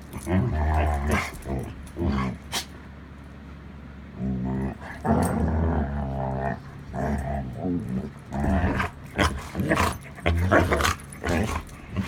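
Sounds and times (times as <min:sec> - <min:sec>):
dog growling: 0:00.0 - 0:02.7, 0:04.1 - 0:12.0.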